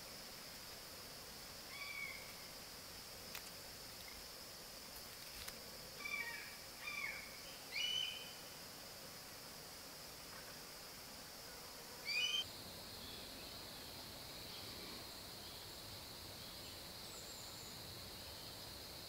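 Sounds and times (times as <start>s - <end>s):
steady high insect drone: 0.0s - 19.0s.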